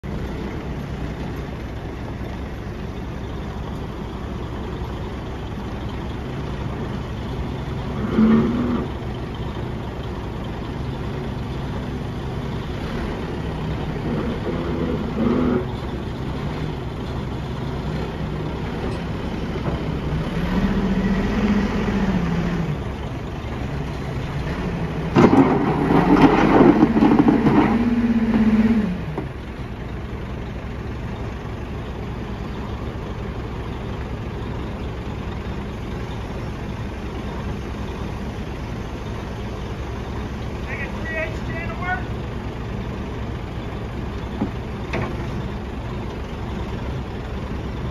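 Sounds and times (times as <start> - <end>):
heavy diesel engines revving: 0.0 - 47.9.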